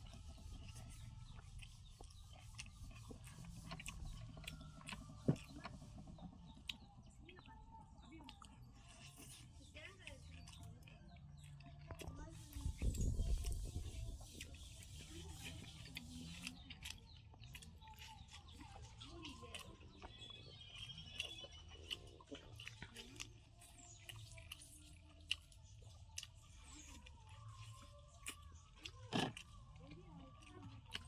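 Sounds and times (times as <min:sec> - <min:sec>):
people chewing food: 0:00.0 - 0:31.0.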